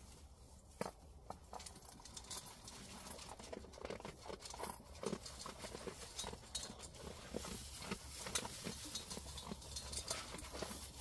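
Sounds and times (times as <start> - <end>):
dog chewing and crunching: 0.8 - 11.0.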